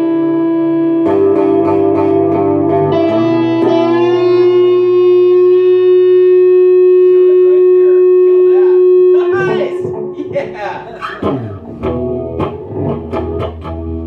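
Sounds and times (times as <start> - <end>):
faint guitar strums: 0.0 - 14.0
guitar notes ringing: 0.0 - 14.0.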